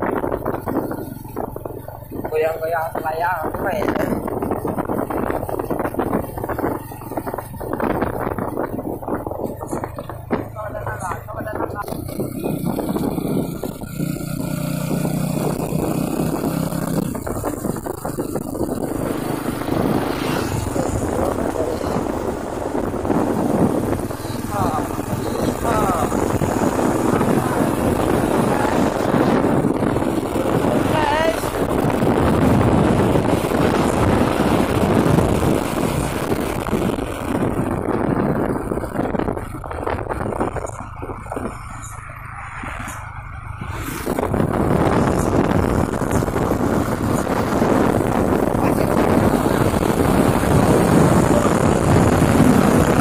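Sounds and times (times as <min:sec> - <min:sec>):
road noise: 0:00.0 - 0:53.0
truck engine drone: 0:00.0 - 0:53.0
wind buffeting microphone: 0:00.0 - 0:53.0.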